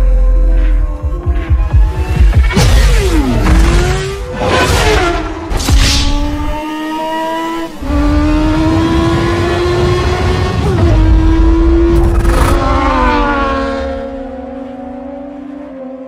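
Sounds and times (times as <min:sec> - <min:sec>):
motorcycle engine at high revs: 0:01.7 - 0:15.1.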